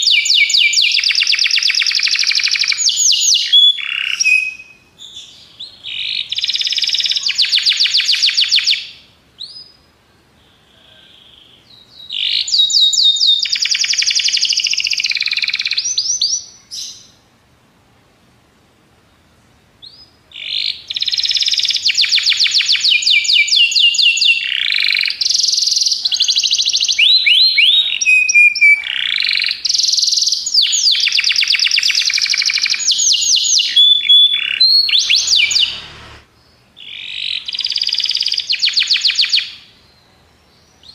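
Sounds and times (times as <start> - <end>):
canary singing: 0.0 - 17.2, 19.8 - 40.9.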